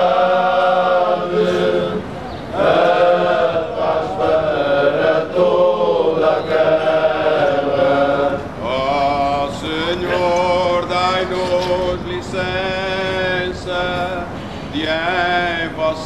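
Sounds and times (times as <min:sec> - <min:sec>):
men singing a hymn unaccompanied: 0:00.0 - 0:16.0.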